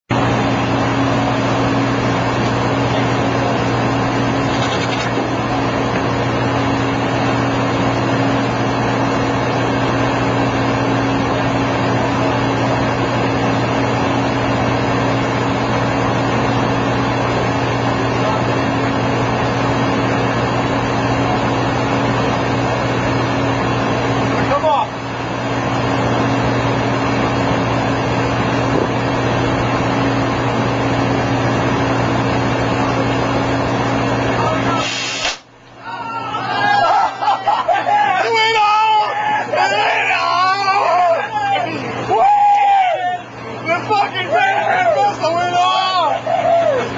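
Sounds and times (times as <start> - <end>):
machinery drone: 0.1 - 46.9.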